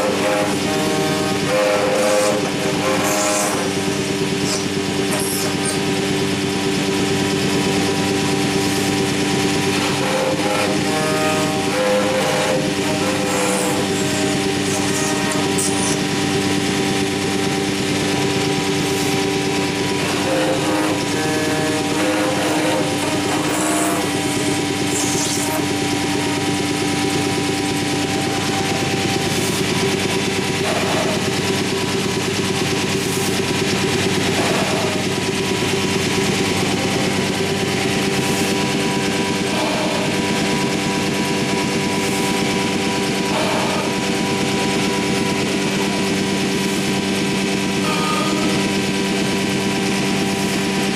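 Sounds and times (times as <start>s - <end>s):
cnc router running: 0.0s - 50.9s
cutter cutting wood: 0.0s - 50.9s.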